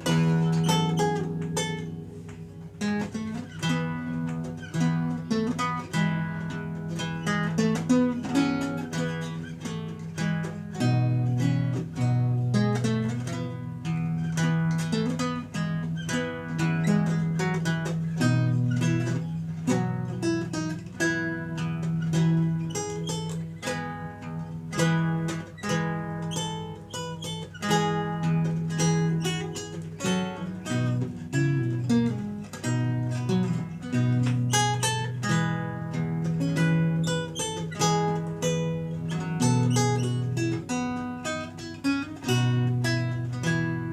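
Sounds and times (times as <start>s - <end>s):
lute playing plucked melody: 0.0s - 43.9s.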